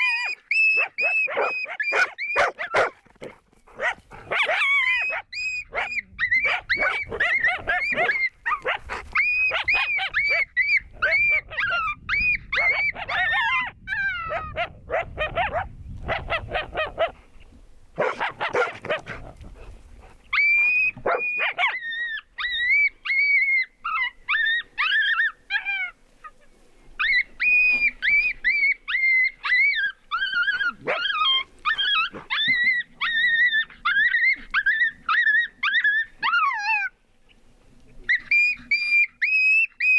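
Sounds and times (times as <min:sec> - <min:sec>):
canines yipping and howling: 0:00.0 - 0:17.2, 0:18.0 - 0:37.0, 0:38.0 - 0:39.9.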